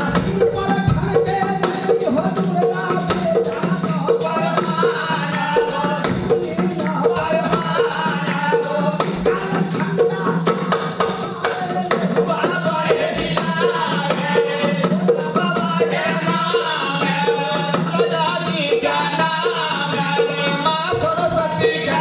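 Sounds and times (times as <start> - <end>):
hand drums beating: 0.0 - 22.0
man singing: 0.0 - 22.0.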